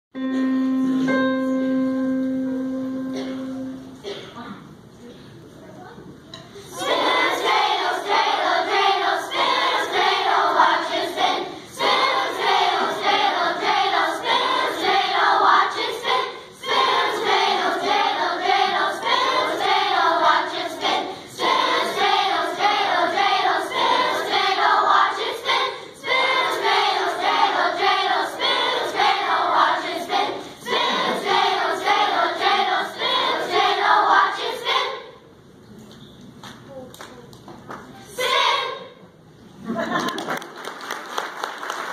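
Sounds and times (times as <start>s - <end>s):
children's choir singing: 0.2s - 4.2s, 6.3s - 35.3s, 38.0s - 39.2s.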